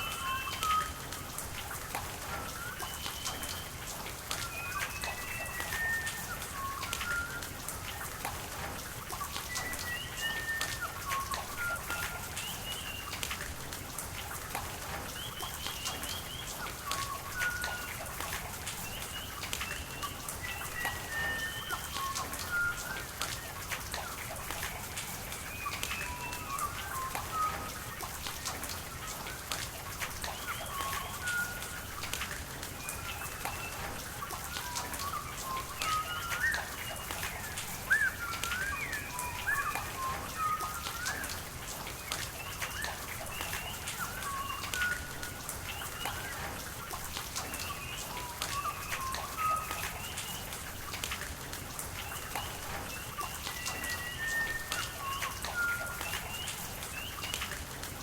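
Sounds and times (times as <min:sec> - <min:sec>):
rain falling: 0:00.0 - 0:58.0
raindrop ticks: 0:00.0 - 0:58.0.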